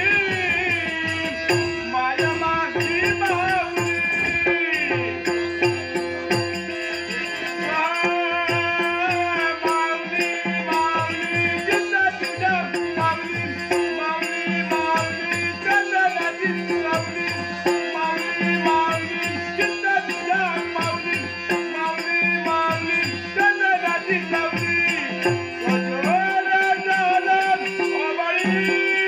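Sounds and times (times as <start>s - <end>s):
harmonium sustained notes: 0.0s - 29.0s
small hand cymbals clashing: 0.7s - 29.0s.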